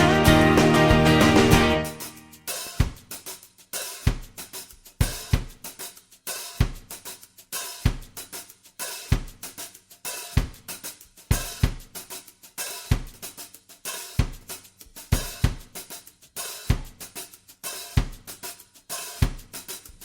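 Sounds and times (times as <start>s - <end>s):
drum kit playing a beat: 0.0s - 20.0s.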